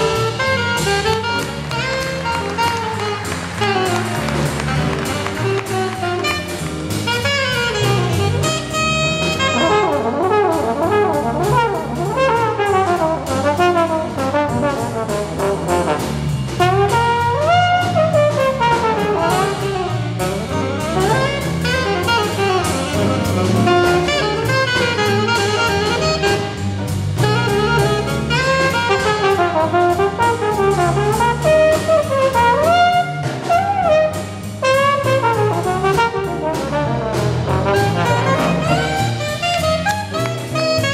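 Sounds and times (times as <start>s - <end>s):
alto saxophone: 0.0s - 40.9s
bass: 0.0s - 40.9s
drum kit cymbal beat: 0.0s - 40.9s
piano: 0.0s - 40.9s
trombone: 0.0s - 40.9s.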